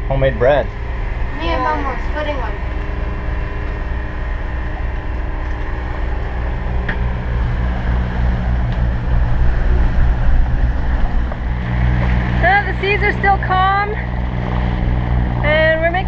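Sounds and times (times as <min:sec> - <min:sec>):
wind and water rushing: 0:00.0 - 0:15.9
boat engine droning: 0:00.0 - 0:16.0.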